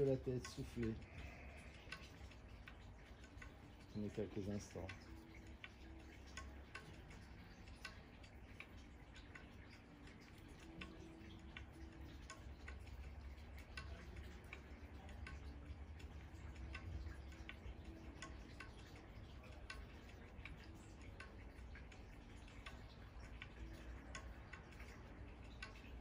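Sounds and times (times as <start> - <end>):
faint ticking: 0.0 - 26.0.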